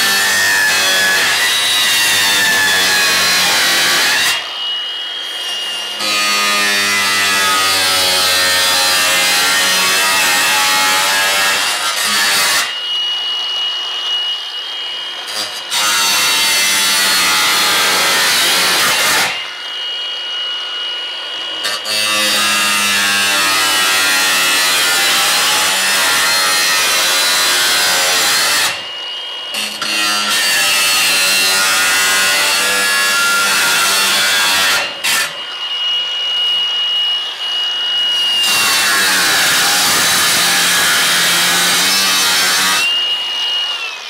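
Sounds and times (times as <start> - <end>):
power tool cutting sheet metal: 0.0 - 44.0.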